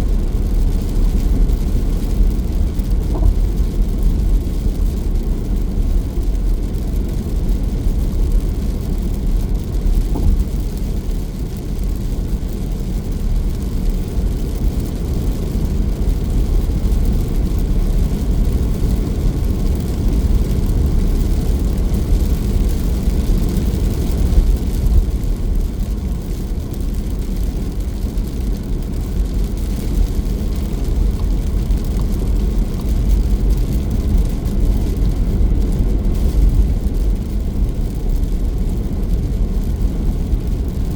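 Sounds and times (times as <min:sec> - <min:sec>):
vehicle rumbling along road: 0:00.0 - 0:40.9.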